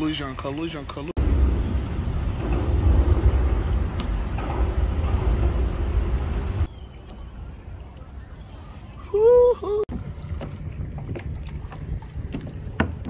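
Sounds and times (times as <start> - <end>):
wind buffeting microphone: 1.2 - 13.0.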